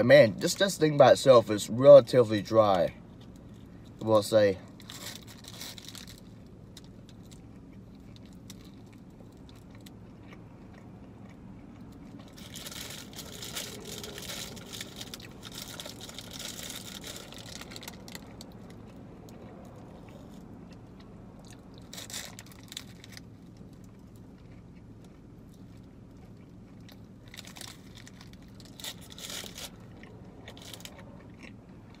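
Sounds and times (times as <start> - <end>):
crackly mouth and paper sounds: 3.2 - 32.0
person chewing: 4.7 - 32.0.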